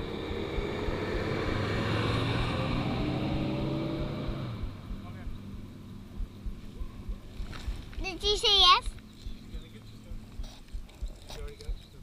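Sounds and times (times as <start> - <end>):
motor vehicle passing by: 0.0 - 10.3
wind rumbling on microphone: 0.0 - 12.0.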